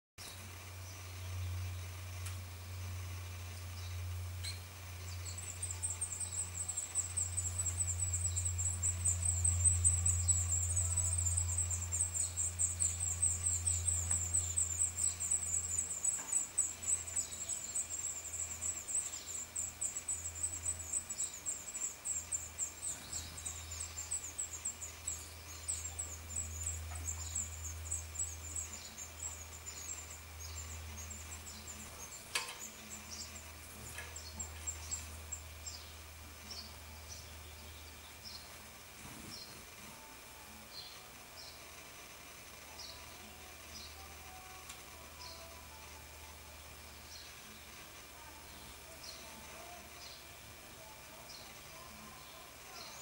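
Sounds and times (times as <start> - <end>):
nestlings begging calls: 0.2 - 40.0, 42.7 - 53.0
steady low hum: 0.2 - 53.0.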